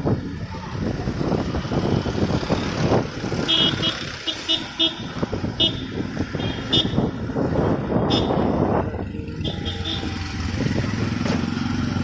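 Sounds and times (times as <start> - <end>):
vehicle engines running: 0.0 - 12.0.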